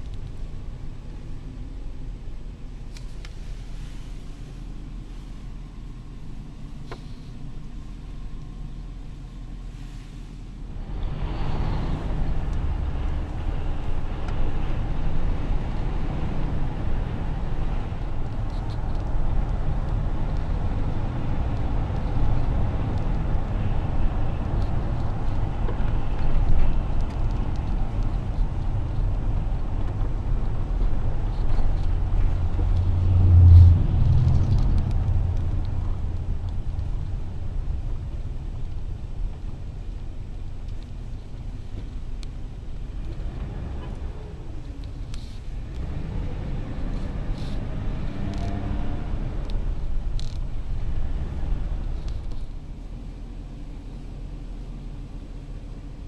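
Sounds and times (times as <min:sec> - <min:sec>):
road and wind noise in car: 0:00.0 - 0:56.0.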